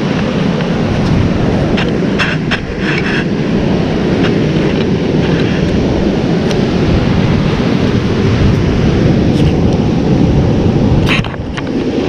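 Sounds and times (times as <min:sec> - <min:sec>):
ocean surf breaking on rocks: 0:00.0 - 0:12.0.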